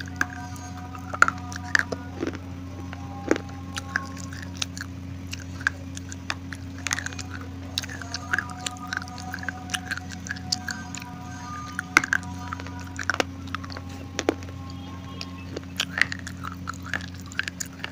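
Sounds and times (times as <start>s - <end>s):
crunchy clay being chewed: 0.0s - 17.9s
steady low hum: 0.0s - 17.9s.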